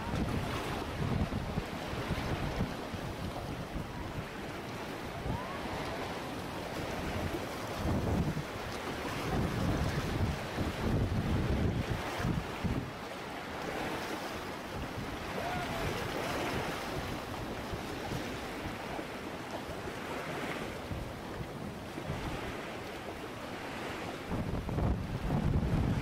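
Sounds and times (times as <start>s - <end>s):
wind rumbling on microphone: 0.0s - 19.3s, 19.9s - 26.0s
sea waves washing onto shore: 0.0s - 26.0s.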